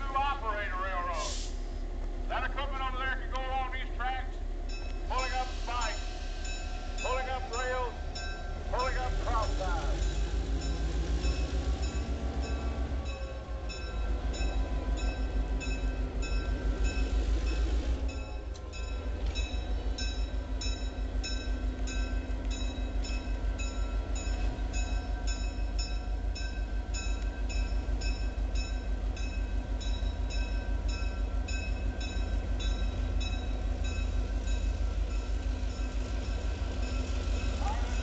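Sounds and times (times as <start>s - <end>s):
diesel locomotive engine throbbing: 0.0s - 38.0s
locomotive bell ringing: 4.6s - 38.0s.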